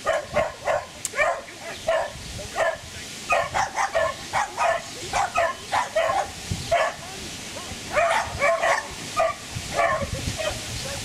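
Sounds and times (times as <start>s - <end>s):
dog yipping: 0.0s - 7.0s, 8.0s - 10.6s.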